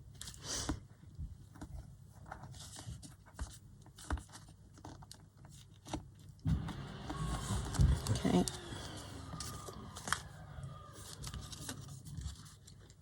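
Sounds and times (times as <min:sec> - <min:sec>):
paper pages rustling: 0:01.4 - 0:13.0.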